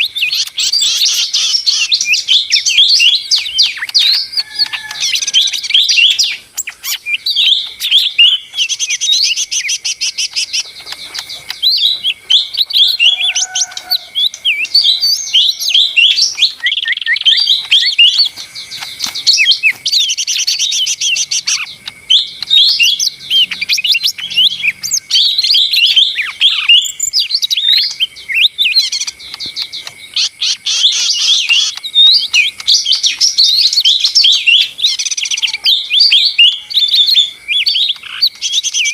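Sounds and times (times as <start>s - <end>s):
bird singing rapid chirps and trills: 0.0s - 38.9s.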